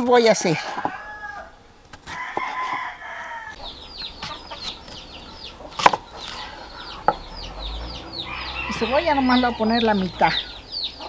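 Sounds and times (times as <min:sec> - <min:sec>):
chickens clucking: 0:00.4 - 0:11.0.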